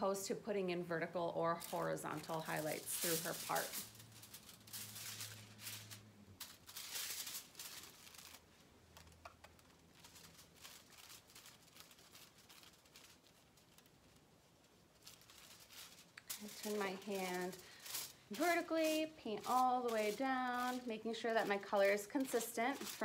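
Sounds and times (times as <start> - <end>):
foil crinkling and rustling: 1.1 - 23.0.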